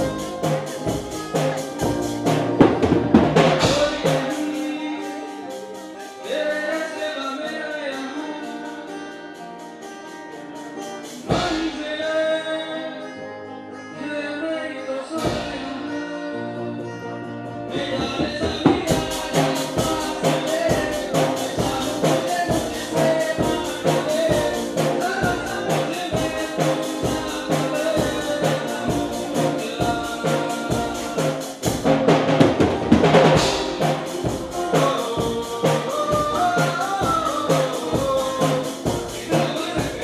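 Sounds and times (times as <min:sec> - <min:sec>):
live band playing: 0:00.0 - 0:40.0
man singing into microphone: 0:03.4 - 0:09.6, 0:11.0 - 0:17.0, 0:17.6 - 0:31.9, 0:33.4 - 0:40.0.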